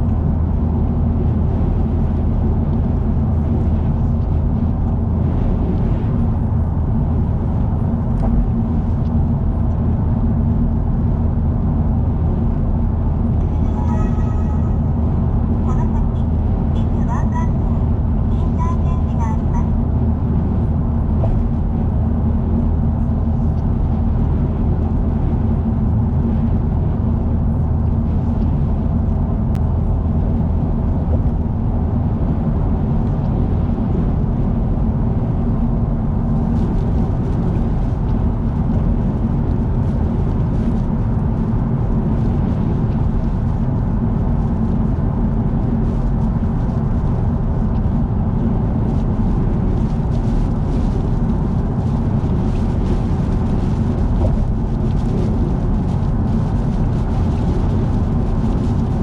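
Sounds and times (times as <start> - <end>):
car interior road drone: 0.0 - 59.0.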